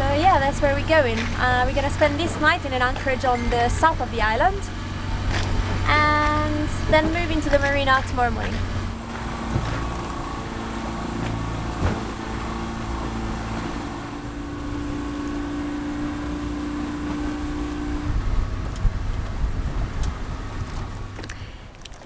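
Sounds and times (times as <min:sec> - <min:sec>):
wind buffeting microphone: 0:00.0 - 0:21.3
boat engine humming: 0:00.0 - 0:22.0
water wash and rumble: 0:00.0 - 0:22.0.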